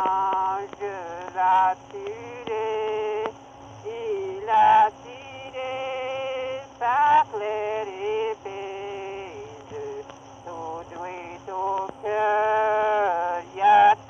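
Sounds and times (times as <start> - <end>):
faint hum and hiss: 0.0 - 14.0
man singing unaccompanied: 0.0 - 14.0.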